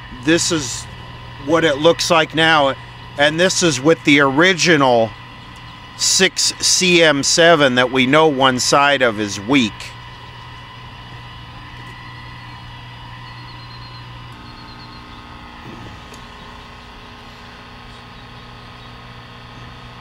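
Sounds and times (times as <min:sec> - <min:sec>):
television electrical hum and buzz: 0:00.0 - 0:20.0.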